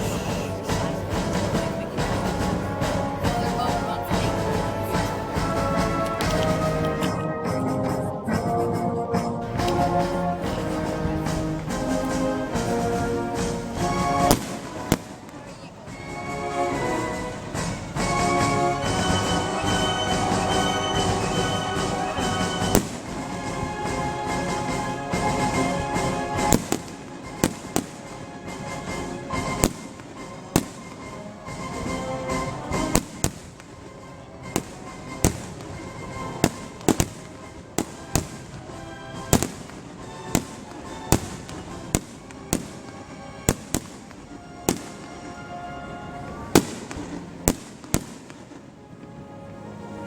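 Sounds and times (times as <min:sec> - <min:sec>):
music: 0:00.0 - 0:50.0.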